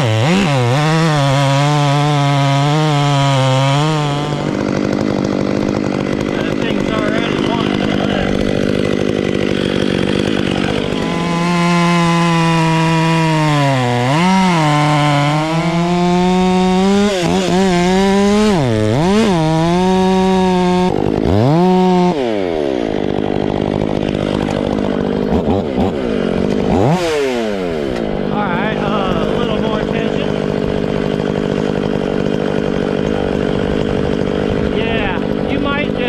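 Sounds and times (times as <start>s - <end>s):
chainsaw cutting through wood: 0.0s - 36.0s.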